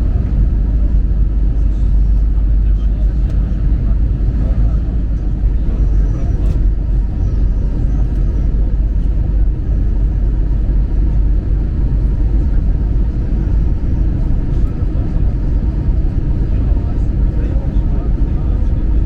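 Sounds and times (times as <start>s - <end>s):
aircraft cabin engine rumble: 0.0s - 19.0s.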